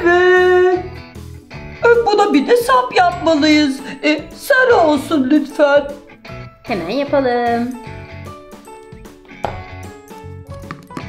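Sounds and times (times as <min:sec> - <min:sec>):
background music with low beat: 0:00.0 - 0:11.0.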